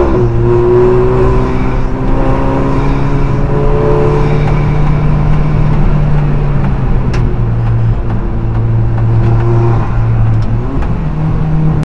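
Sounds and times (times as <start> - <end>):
race car engine running loud: 0.0 - 11.8
road and wind noise: 0.0 - 11.9.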